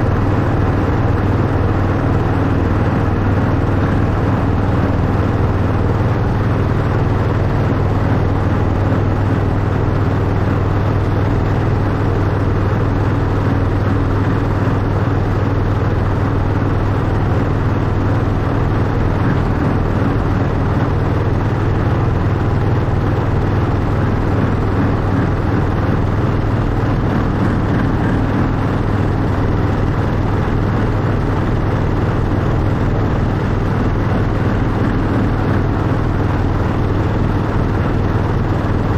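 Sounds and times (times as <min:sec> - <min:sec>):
miniature train running on track: 0:00.0 - 0:38.9.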